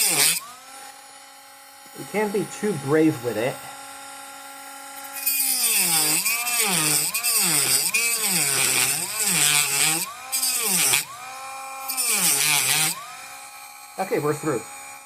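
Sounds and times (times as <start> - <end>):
rotary tool grinding plastic: 0.0 - 15.0
rotary tool motor spinning free: 0.0 - 15.0.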